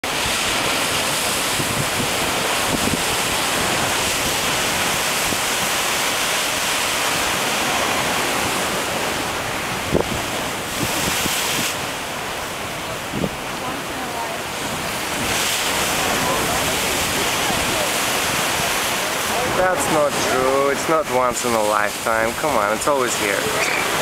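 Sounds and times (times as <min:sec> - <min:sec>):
wind buffeting microphone: 0:00.0 - 0:21.2
ocean surf rushing: 0:00.0 - 0:24.0.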